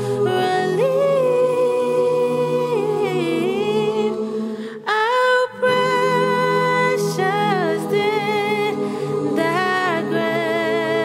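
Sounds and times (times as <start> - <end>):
a cappella hymn singing: 0.0 - 11.0.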